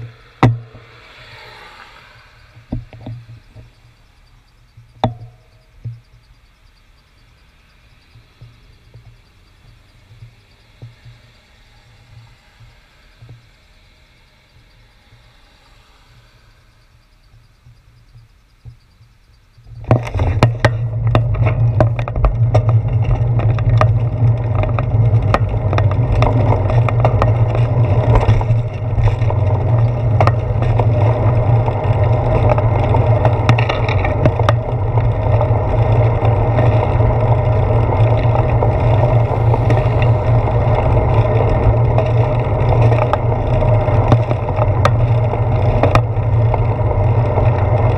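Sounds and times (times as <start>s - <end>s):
bicycle road vibration: 0.0s - 47.9s
faint traffic: 0.0s - 47.9s
wind rumble: 0.0s - 47.9s.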